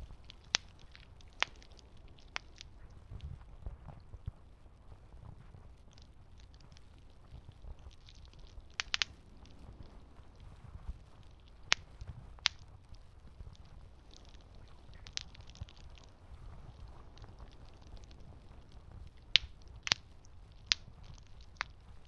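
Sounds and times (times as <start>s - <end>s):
campfire crackling and popping: 0.0s - 3.5s, 5.5s - 22.0s.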